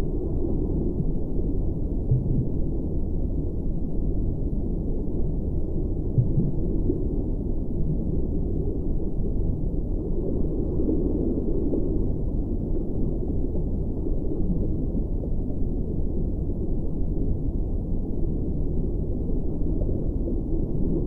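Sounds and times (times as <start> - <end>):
low rumble of noise: 0.0 - 21.0.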